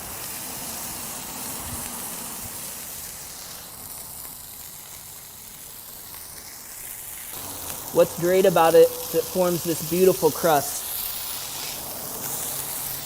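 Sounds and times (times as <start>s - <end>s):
patties sizzling on a griddle: 0.0s - 13.0s.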